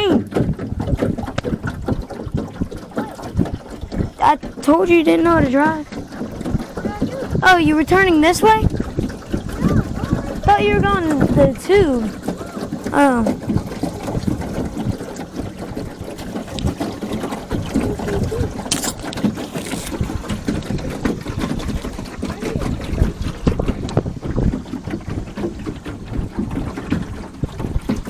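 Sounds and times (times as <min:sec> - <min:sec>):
boat water rumble: 0:00.0 - 0:28.0.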